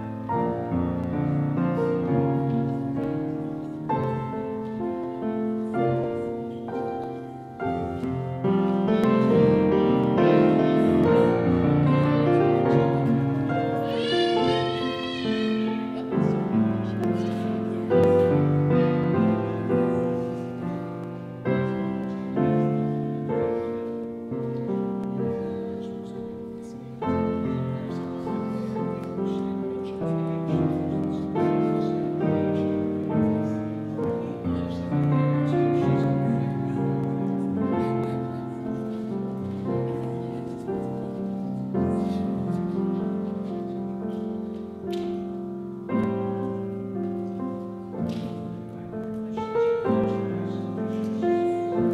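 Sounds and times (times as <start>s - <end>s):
piano music: 0.0s - 51.9s.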